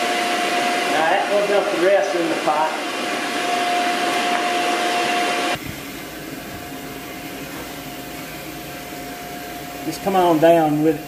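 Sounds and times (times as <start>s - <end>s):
blower rushing with whine: 0.0s - 11.0s.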